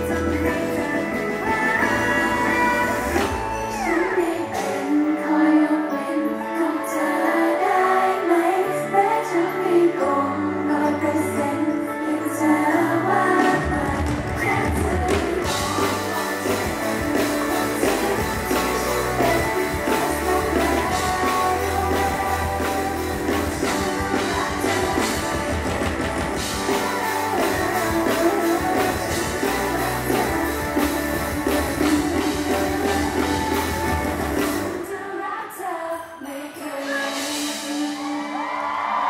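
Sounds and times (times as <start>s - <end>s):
guitar: 0.0s - 39.0s
person singing: 0.0s - 39.0s.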